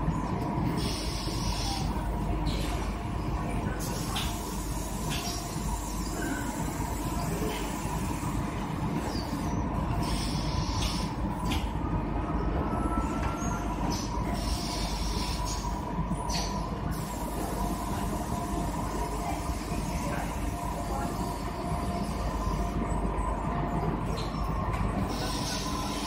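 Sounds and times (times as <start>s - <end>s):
machinery low hum: 0.0s - 26.0s.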